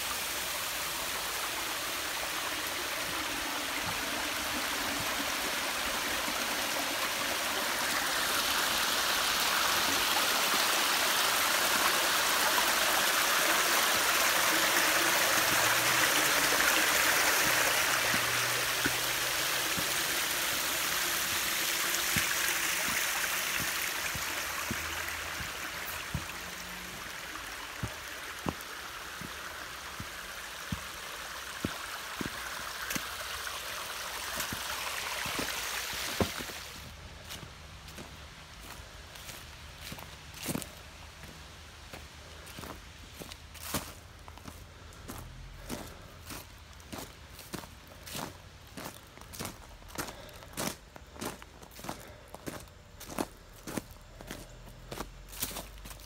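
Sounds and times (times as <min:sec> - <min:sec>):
creek splashing over rocks: 0:00.0 - 0:56.0.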